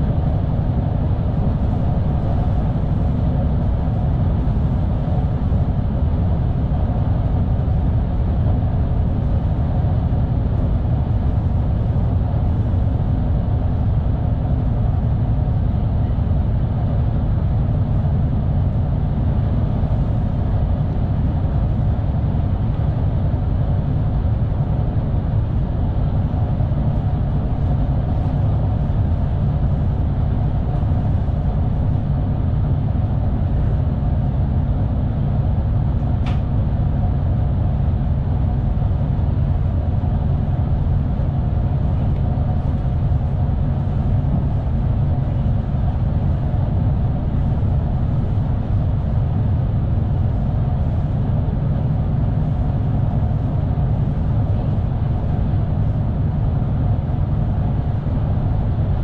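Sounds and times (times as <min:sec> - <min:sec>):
train rumbling from inside cab: 0:00.0 - 0:59.0.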